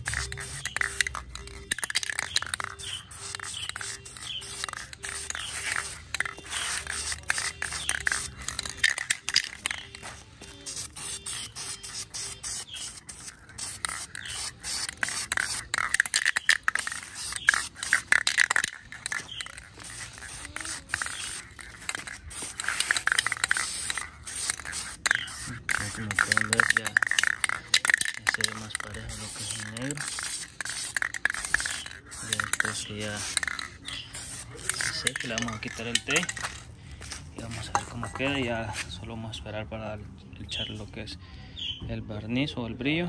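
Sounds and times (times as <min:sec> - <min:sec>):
spray paint hissing: 0:00.0 - 0:39.0.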